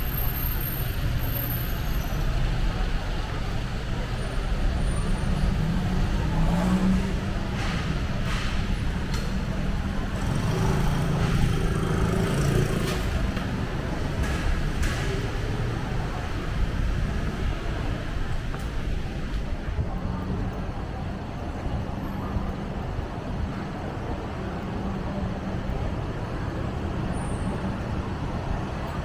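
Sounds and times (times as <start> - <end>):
cars passing: 0.0 - 29.0
voices of passersby: 0.0 - 29.0.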